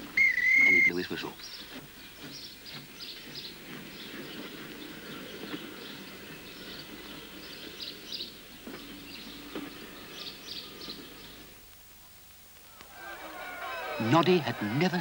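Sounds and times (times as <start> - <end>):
background hiss: 0.0 - 15.0
birds chirping: 0.0 - 15.0.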